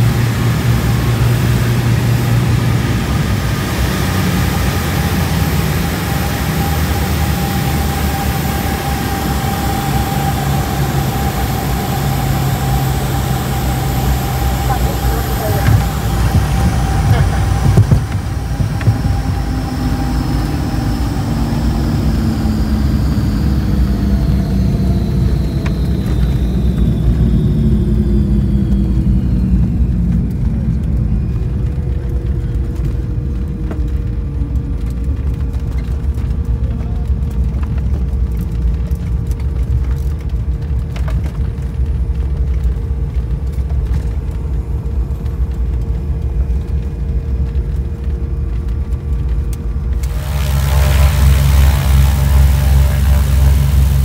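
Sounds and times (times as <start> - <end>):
propeller plane engines droning: 0.0 - 54.0.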